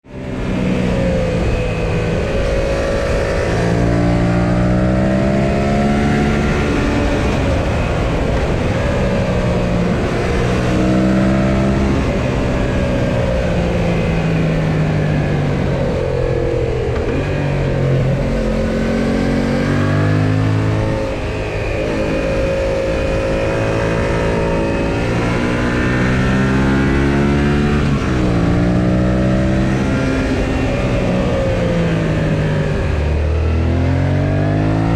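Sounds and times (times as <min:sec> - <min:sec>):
motorcycle engine revving: 0:00.1 - 0:34.9
wind noise: 0:00.1 - 0:34.9.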